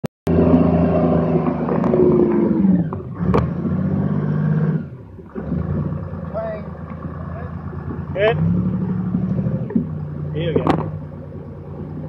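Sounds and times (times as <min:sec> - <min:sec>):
tracked vehicle engine running: 0:00.3 - 0:12.0.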